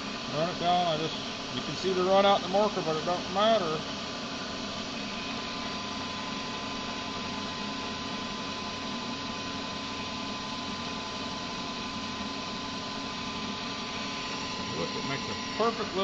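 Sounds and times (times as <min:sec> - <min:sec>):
milling machine whining: 0:00.0 - 0:16.0.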